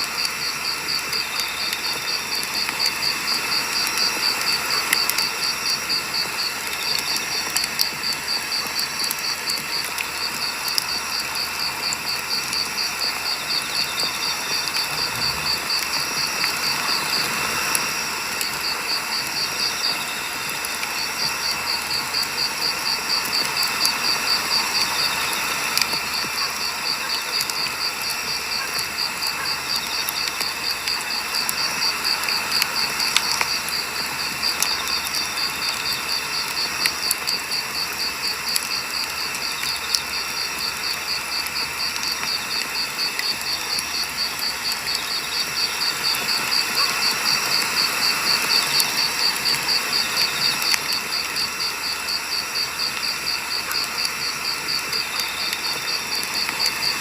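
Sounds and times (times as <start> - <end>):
campfire crackling: 0.0 - 57.0
insect trilling: 0.0 - 57.0.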